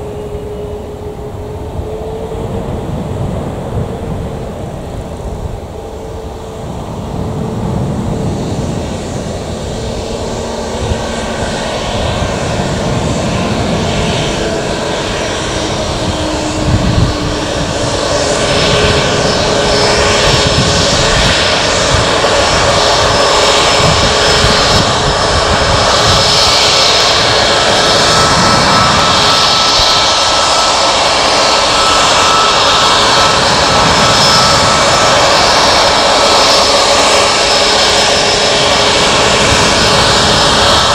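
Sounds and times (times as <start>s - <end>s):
jet engines whining and rumbling: 0.0s - 40.9s.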